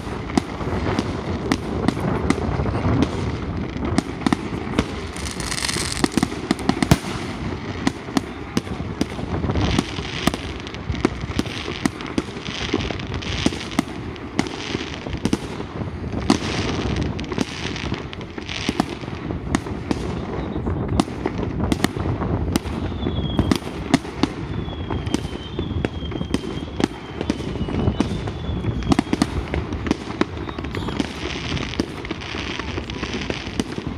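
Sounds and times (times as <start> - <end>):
fireworks bursting with sharp bangs: 0.0 - 33.9.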